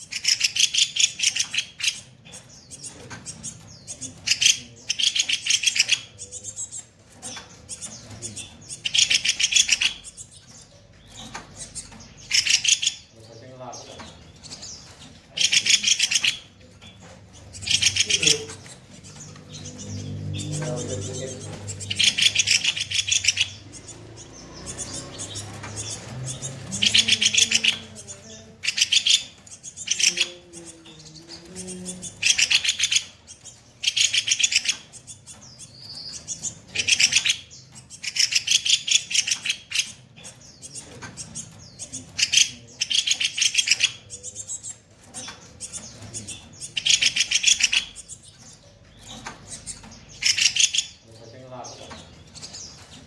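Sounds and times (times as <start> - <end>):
bird singing rattling phrases: 0.0 - 53.0.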